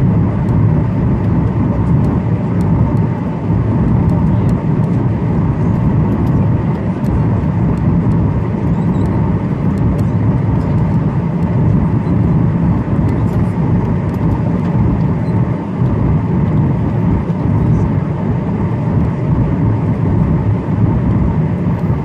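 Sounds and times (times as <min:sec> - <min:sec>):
airplane cabin rumble: 0:00.0 - 0:22.0
faint steady hum: 0:00.0 - 0:22.0.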